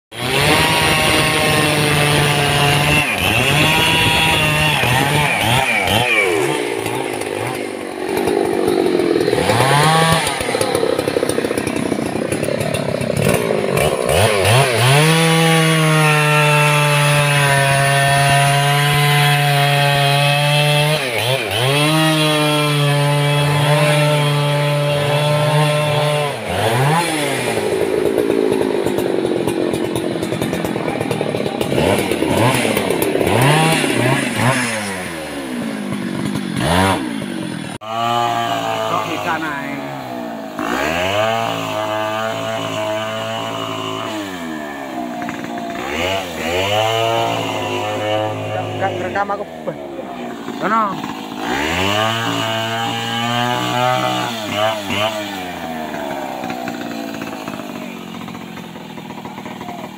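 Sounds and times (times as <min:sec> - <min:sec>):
chainsaw cutting wood: 0:00.1 - 0:59.9.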